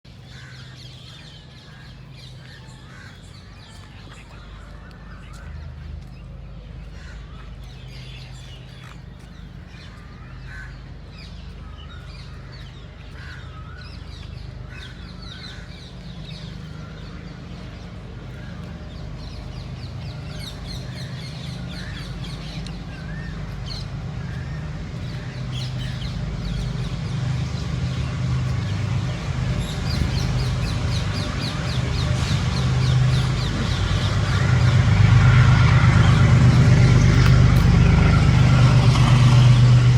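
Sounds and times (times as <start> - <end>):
steady low rumble: 0.1 - 39.9.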